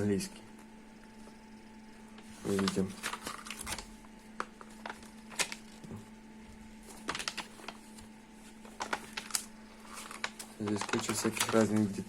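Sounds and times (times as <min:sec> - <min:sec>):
faint steady hum: 0:00.0 - 0:12.0
paper pages rustling: 0:02.1 - 0:12.0.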